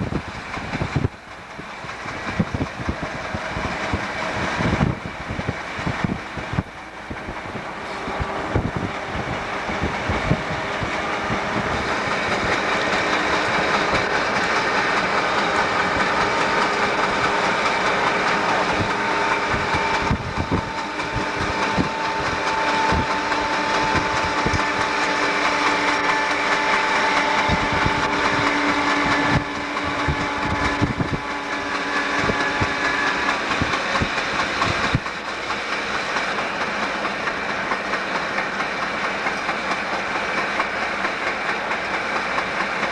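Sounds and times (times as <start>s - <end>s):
road and wind noise: 0.0s - 25.9s, 27.4s - 38.2s
diesel locomotive engines running: 0.0s - 42.9s.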